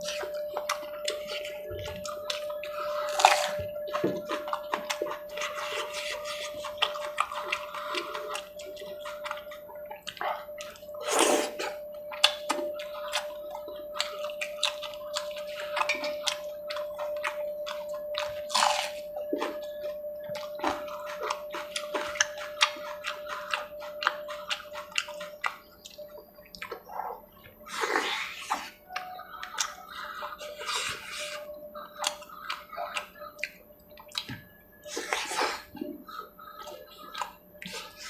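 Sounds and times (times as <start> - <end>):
faint steady hum: 0.0 - 38.0
wet chewing and smacking: 0.0 - 38.0.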